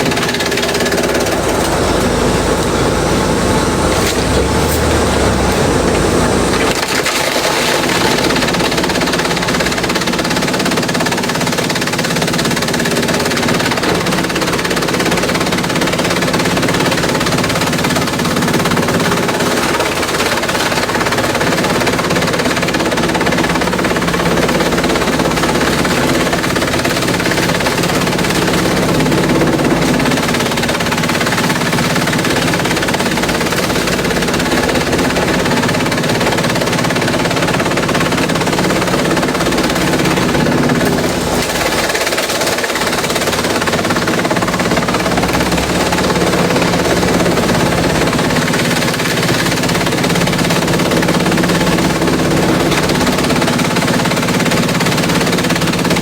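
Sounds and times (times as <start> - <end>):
shredder machine drone: 0.0 - 56.0.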